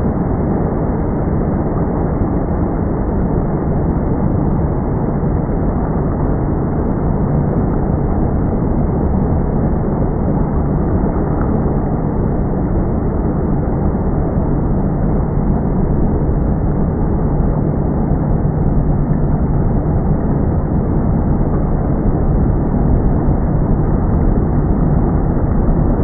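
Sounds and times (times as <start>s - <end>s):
motorboat engine droning: 0.0s - 26.0s.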